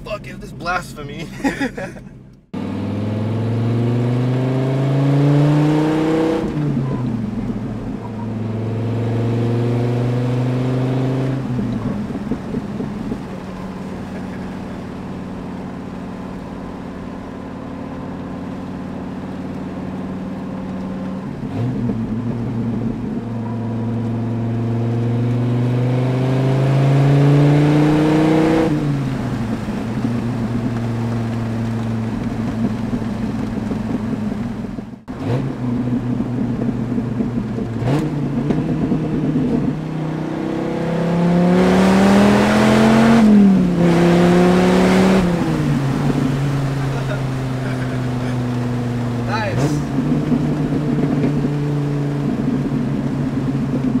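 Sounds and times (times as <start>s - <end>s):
car engine revving while driving: 0.0s - 54.0s.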